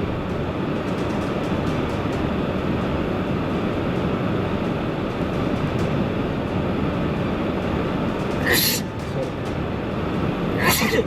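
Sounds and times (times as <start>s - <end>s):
car cabin road noise: 0.0s - 11.0s
heavy wind: 0.0s - 11.0s.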